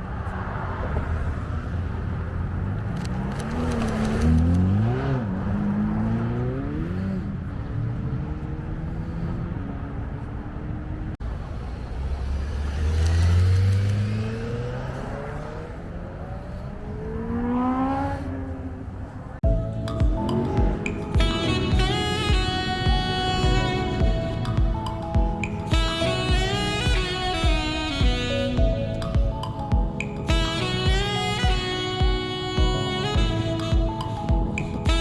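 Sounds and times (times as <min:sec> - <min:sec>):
car engine revving: 0:00.0 - 0:29.1
engine accelerating: 0:00.3 - 0:35.0.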